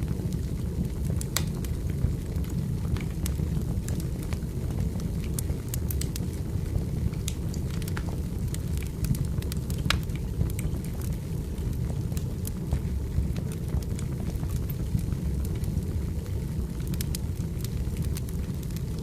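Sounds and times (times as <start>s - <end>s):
firewood crackling and popping: 0.0s - 19.0s
low rumble of fire: 0.0s - 19.0s.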